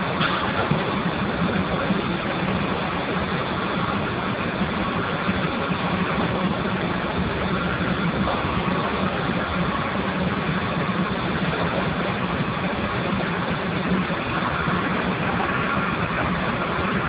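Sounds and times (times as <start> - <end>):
low hum: 0.0 - 17.0
steam boiler rushing noise: 0.0 - 17.0.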